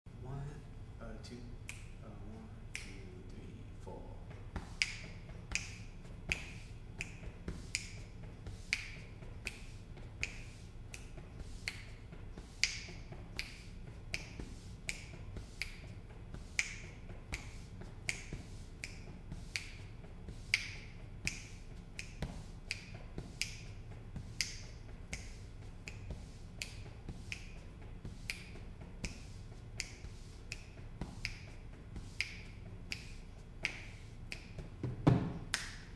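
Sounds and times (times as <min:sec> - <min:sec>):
finger snaps in a groove: 0:01.6 - 0:03.4, 0:04.3 - 0:35.9.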